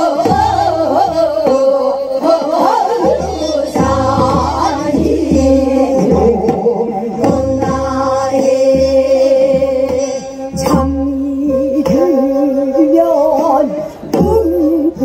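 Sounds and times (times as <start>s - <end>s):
barrel drum beats: 0.0s - 15.0s
women singing with vibrato: 0.0s - 15.0s.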